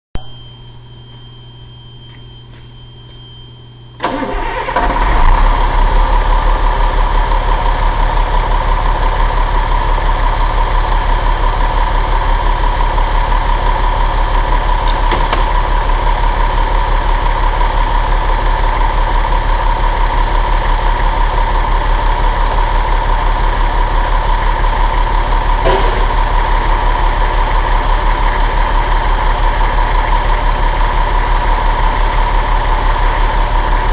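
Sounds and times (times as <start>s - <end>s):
diesel engine starting and idling: 4.0s - 33.9s.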